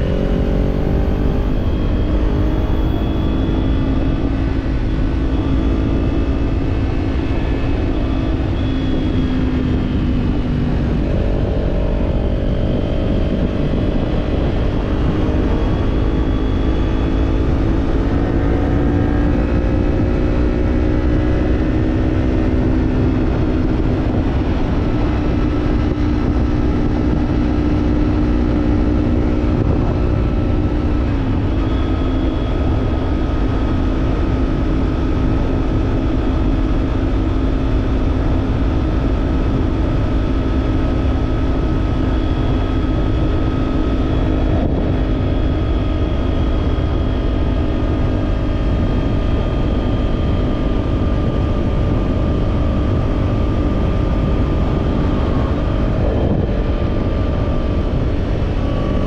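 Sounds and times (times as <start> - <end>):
heavy wind noise: 0.0 - 59.0
motorcycle engine running: 0.0 - 59.0.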